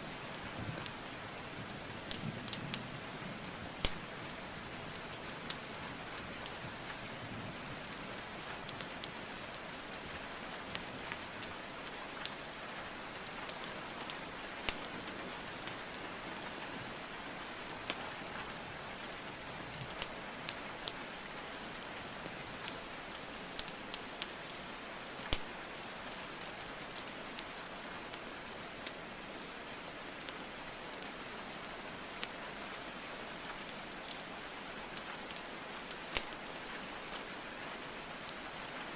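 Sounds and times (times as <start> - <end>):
steady rainfall: 0.0 - 38.9
wood fire crackling: 0.1 - 38.9.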